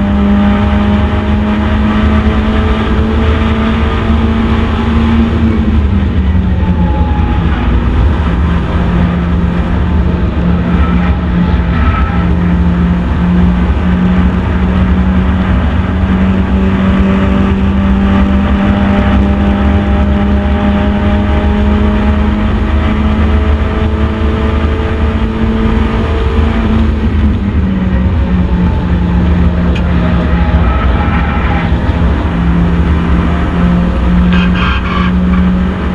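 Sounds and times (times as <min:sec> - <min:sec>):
race car engine running hard: 0:00.0 - 0:35.9
road and wind noise: 0:00.0 - 0:35.9.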